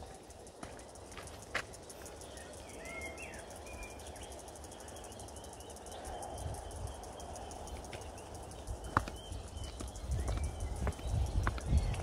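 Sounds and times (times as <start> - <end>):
high-pitched insect pulsing: 0.0 - 12.0
bird chirps: 1.4 - 12.0.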